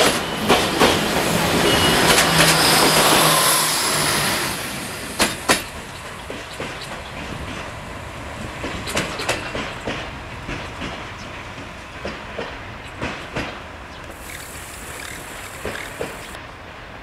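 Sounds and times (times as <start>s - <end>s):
train wheels clacking over joints: 0.0s - 3.6s, 5.0s - 16.4s
railcar running rumble: 0.0s - 17.0s.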